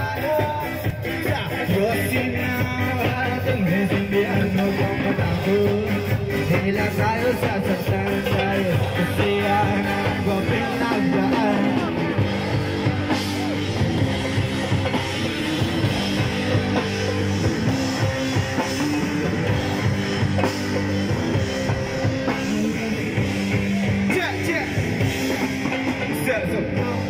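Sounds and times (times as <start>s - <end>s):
bass guitar: 0.0s - 27.0s
drum kit beat: 0.0s - 27.0s
electric guitar: 0.0s - 27.0s.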